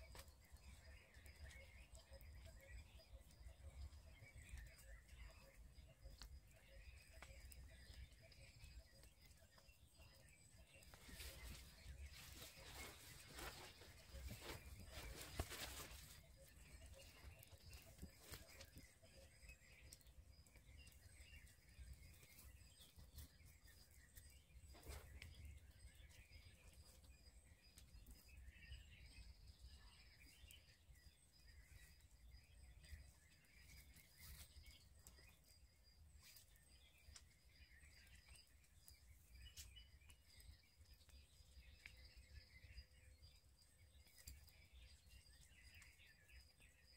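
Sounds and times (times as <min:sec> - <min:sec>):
birdsong: 0:00.0 - 0:46.9.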